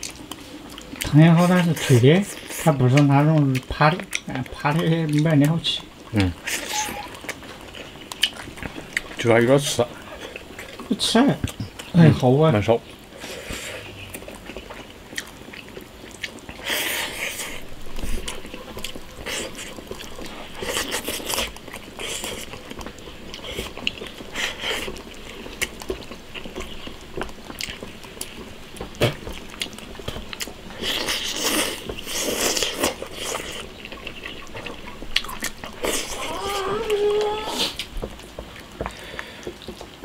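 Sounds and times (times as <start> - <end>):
man chewing and slurping: 0.0 - 12.2, 12.8 - 40.0.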